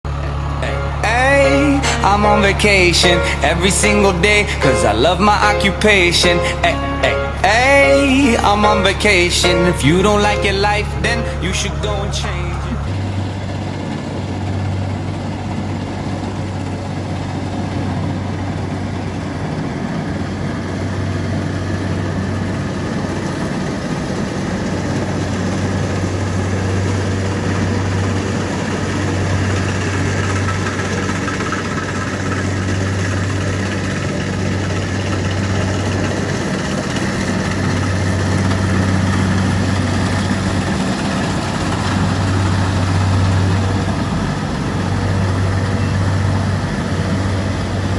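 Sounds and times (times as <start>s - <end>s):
combine harvester diesel engine: 0.0s - 47.9s.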